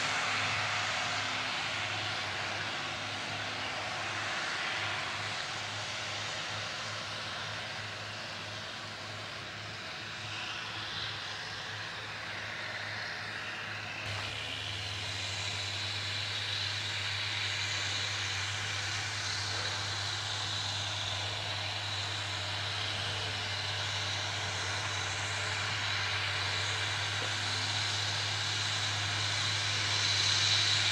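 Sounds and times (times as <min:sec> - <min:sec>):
constant low hum: 0:00.0 - 0:30.9
tractor engines droning: 0:00.0 - 0:30.9.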